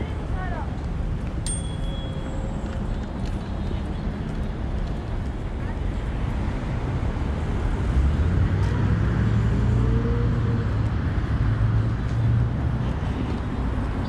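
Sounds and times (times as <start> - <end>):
street traffic: 0.0 - 14.0
vehicle engine hum: 0.0 - 14.0.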